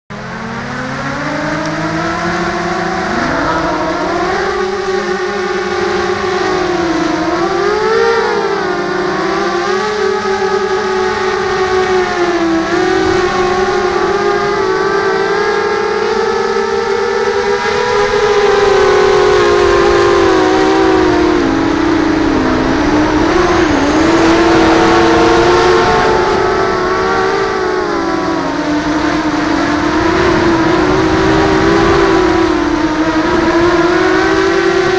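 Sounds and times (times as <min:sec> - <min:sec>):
drone motors whining: 0:00.1 - 0:34.9.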